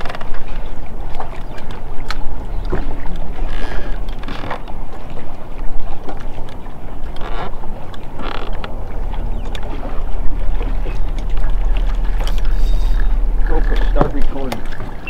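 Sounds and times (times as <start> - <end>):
small waves against boat: 0.0 - 15.0
wind buffeting microphone: 0.0 - 15.0.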